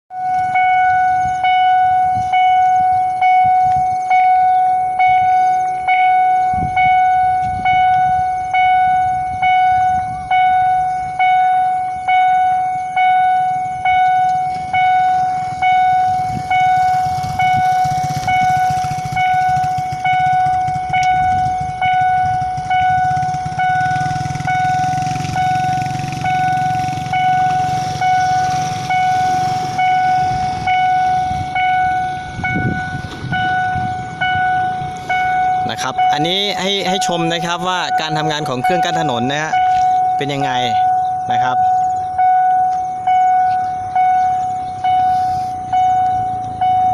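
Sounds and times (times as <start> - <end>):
level crossing bell ringing: 0.1 - 46.9
low rumble: 0.3 - 46.9.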